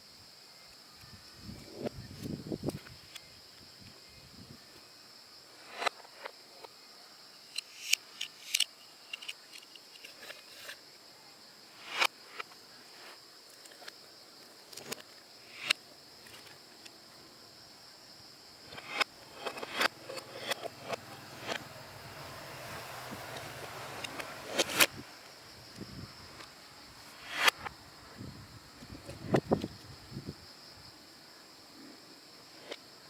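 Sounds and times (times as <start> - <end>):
faint high hiss: 0.0 - 33.0.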